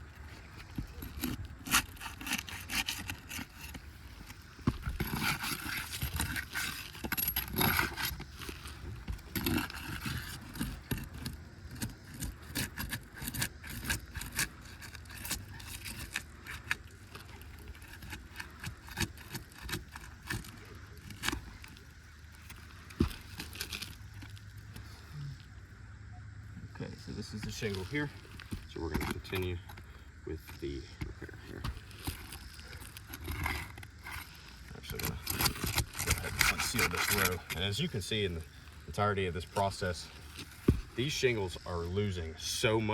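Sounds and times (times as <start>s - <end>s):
roof shingles being scraped: 0.0s - 25.1s, 27.3s - 41.9s.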